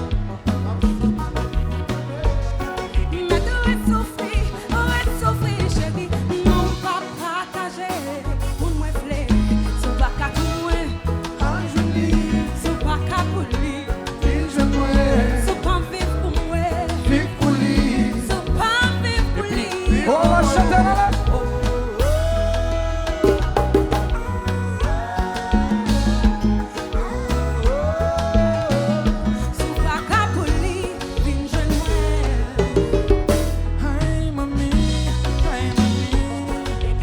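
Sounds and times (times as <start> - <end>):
heavy bass: 0.0 - 7.0, 8.2 - 37.0
live band music: 0.0 - 37.0
person singing: 0.0 - 37.0.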